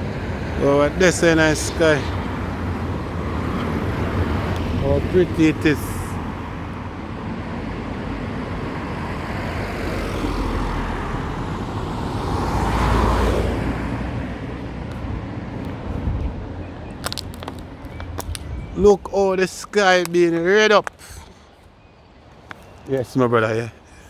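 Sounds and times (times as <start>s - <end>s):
road vehicle passing by: 0.0s - 23.9s.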